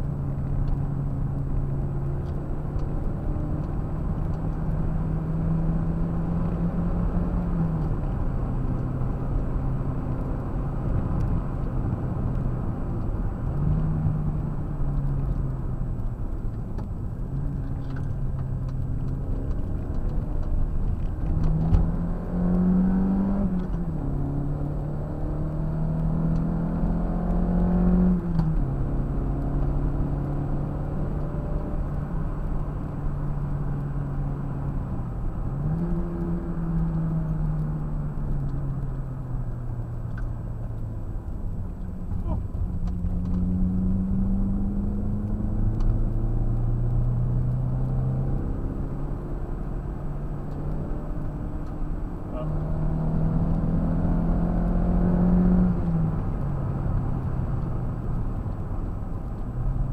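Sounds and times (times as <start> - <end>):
car engine: 0.0 - 59.9
road and wind rumble: 0.0 - 59.9.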